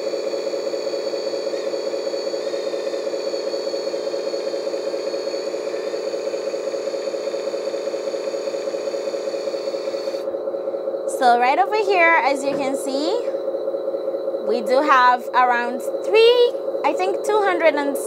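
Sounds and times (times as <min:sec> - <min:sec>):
pulsing hydraulic pump hum: 0:00.0 - 0:18.0.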